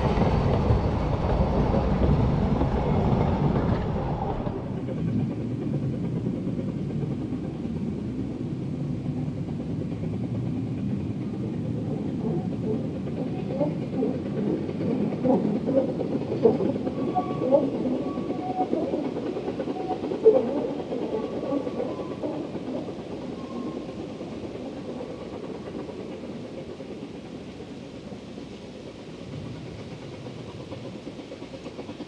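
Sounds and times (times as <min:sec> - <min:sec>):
distant steam locomotive beats: 0:00.0 - 0:32.0
train wheels rumbling on track: 0:00.0 - 0:32.0.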